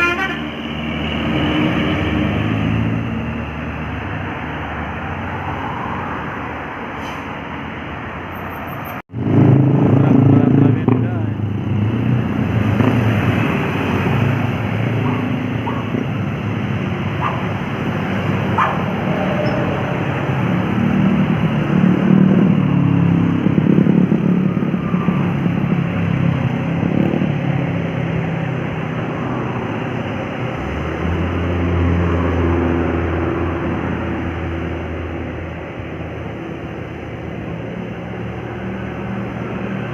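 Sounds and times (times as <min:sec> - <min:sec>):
car and motorcycle engines: 0:00.0 - 0:39.9.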